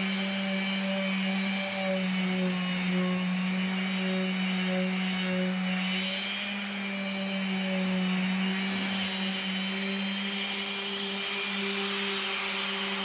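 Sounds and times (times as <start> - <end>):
orbital sander on wood: 0.0 - 13.0.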